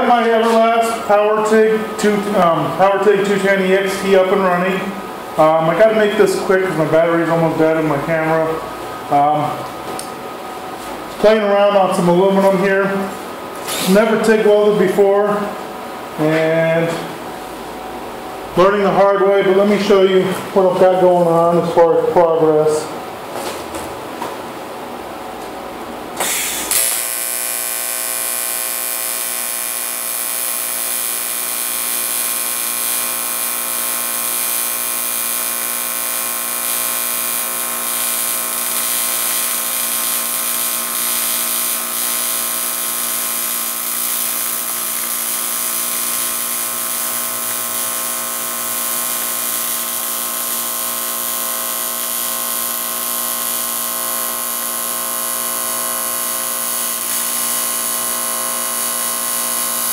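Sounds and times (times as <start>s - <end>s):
welding arc buzzing and hissing: 0.0s - 22.2s, 26.1s - 59.9s.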